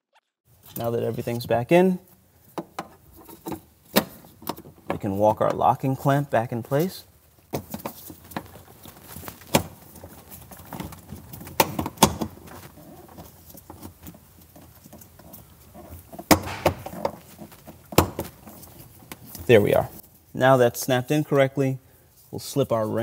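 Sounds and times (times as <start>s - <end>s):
glove rustling: 2.0s - 20.5s.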